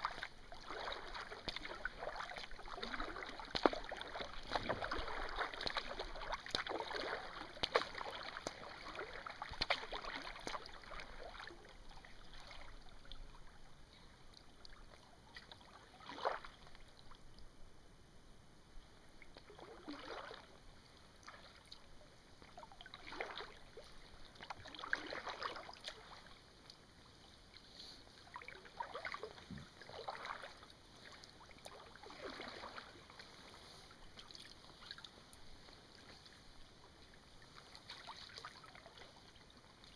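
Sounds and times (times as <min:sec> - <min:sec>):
paddle splashing in water: 0:00.0 - 0:13.7, 0:14.3 - 0:17.2, 0:19.2 - 0:20.6, 0:21.2 - 0:39.9.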